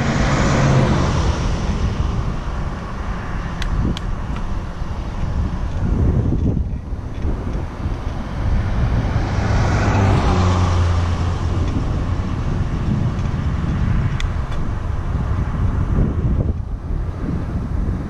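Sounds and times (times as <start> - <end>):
road vehicle passing: 0.0 - 18.0
steady low rumble: 0.0 - 18.0.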